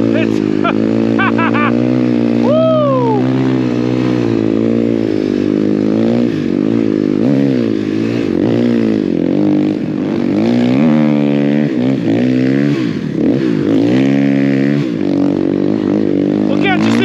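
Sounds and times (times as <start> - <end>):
snowbike engine revving: 0.0 - 17.0.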